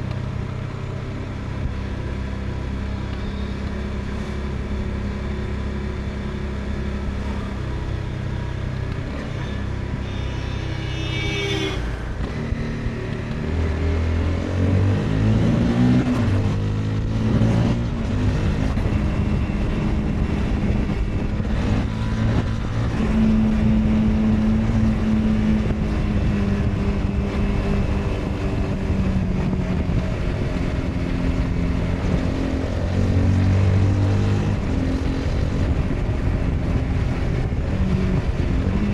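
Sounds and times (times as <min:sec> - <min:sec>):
motorcycle engine running: 0:00.0 - 0:15.4, 0:16.1 - 0:38.9.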